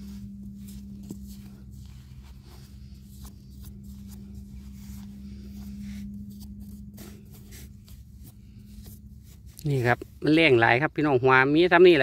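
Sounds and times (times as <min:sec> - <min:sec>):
hand scraping crumbly soil: 0:00.0 - 0:12.0
steady low hum: 0:00.0 - 0:12.0.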